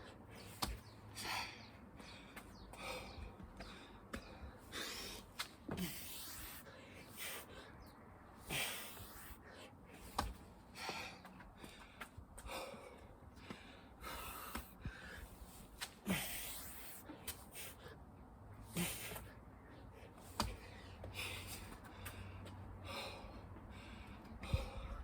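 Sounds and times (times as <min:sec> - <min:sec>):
man gasping breaths: 0:01.1 - 0:10.1, 0:10.7 - 0:25.0.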